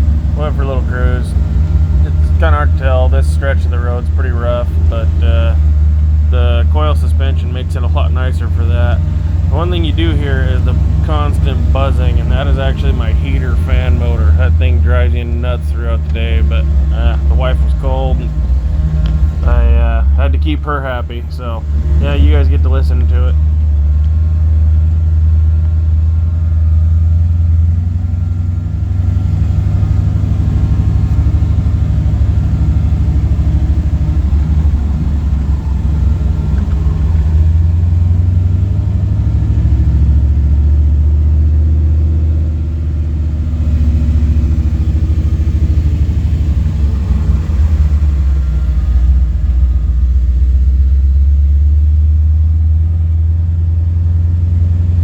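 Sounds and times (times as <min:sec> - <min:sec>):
engine and road rumble: 0:00.0 - 0:55.0.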